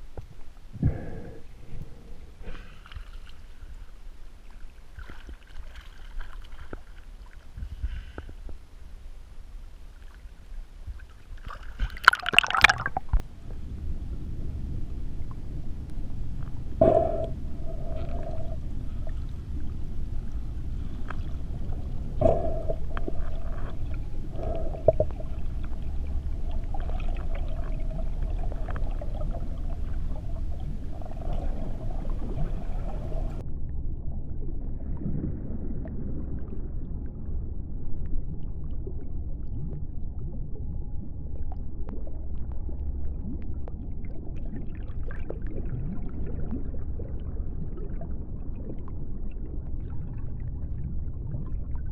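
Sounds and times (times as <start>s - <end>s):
muffled underwater rumble: 0.0s - 51.9s.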